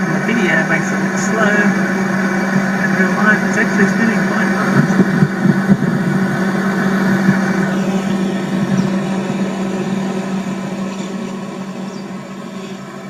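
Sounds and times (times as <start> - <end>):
refrigerator hum: 0.0 - 13.0.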